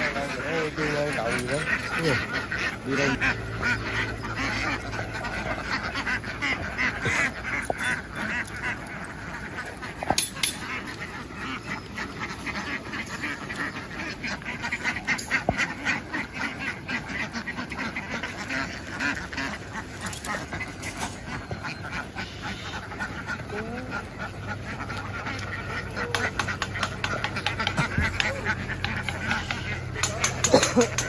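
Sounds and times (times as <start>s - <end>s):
flock of ducks quacking: 0.0s - 31.0s.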